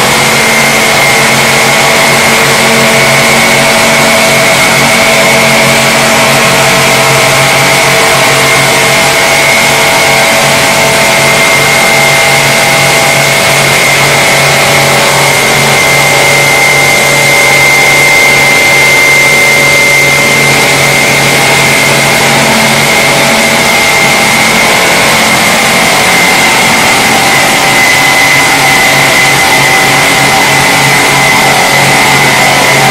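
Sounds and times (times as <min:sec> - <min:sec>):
high machine whine: 0:00.0 - 0:32.9
polishing machine humming: 0:00.0 - 0:32.9.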